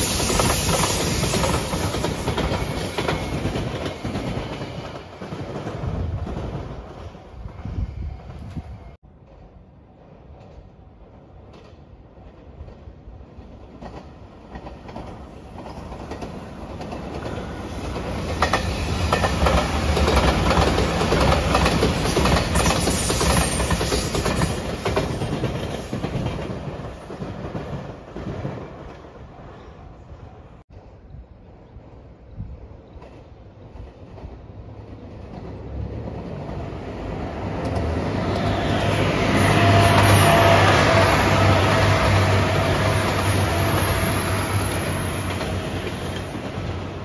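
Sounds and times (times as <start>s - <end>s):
electric train passing: 0.0s - 29.6s, 30.4s - 47.0s.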